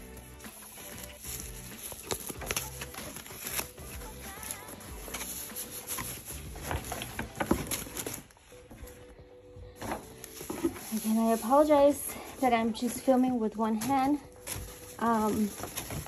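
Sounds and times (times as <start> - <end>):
plastic and paper crinkling: 0.0 - 9.2, 9.8 - 16.0.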